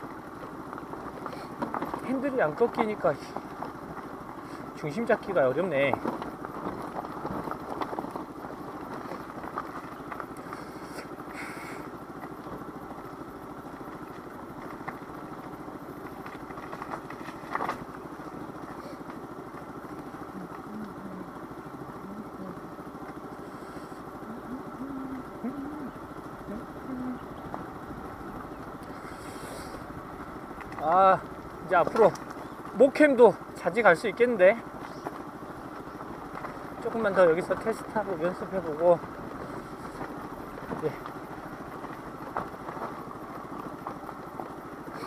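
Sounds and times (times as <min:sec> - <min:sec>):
road noise: 0:00.0 - 0:45.0
scooter engine drone: 0:00.0 - 0:45.0.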